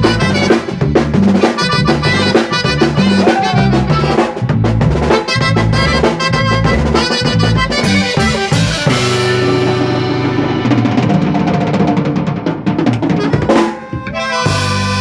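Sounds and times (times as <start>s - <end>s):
accordion melody: 0.0s - 11.4s, 13.1s - 15.0s
bass line: 0.0s - 15.0s
drums: 0.0s - 15.0s.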